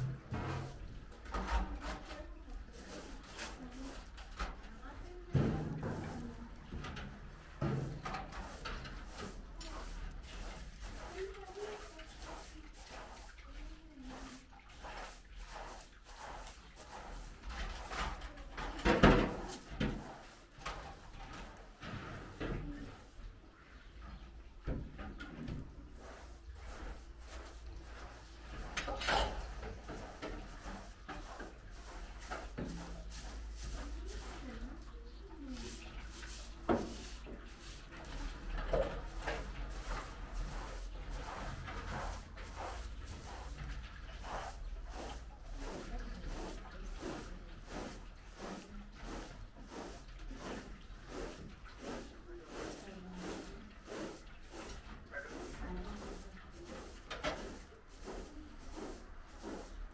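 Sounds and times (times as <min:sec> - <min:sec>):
hand broom brushing: 0:00.0 - 0:23.2, 0:25.3 - 0:59.9
wooden planks scraping and knocking: 0:00.0 - 0:59.9.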